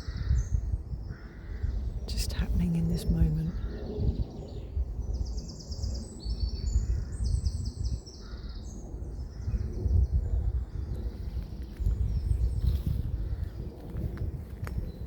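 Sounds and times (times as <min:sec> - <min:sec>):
songbirds trilling: 0:00.0 - 0:13.8
low wind rumble: 0:00.0 - 0:15.0.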